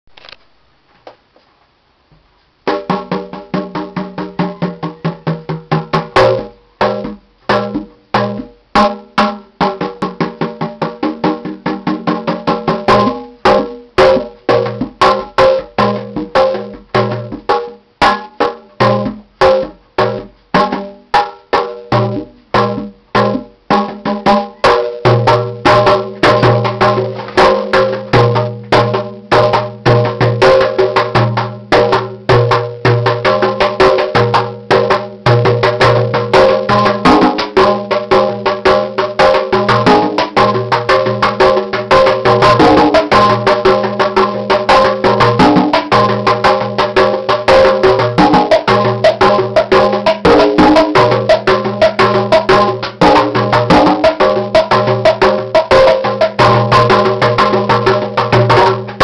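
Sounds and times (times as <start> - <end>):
hand drumming: 2.7 - 59.0.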